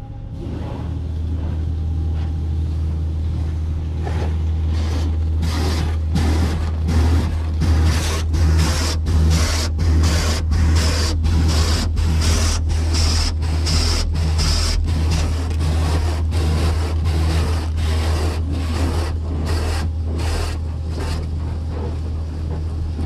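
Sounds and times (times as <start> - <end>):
steady low hum: 0.0 - 23.0
car wash brushes swishing: 4.0 - 23.0.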